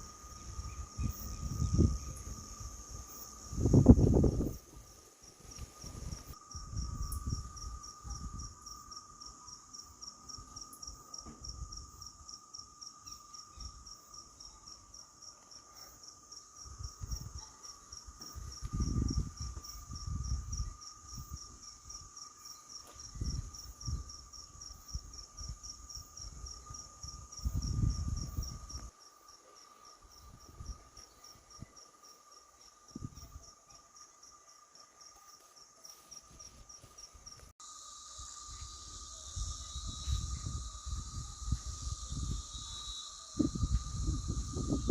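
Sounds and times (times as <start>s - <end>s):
crickets chirping: 0.0s - 44.9s
low insect tone: 0.0s - 44.9s.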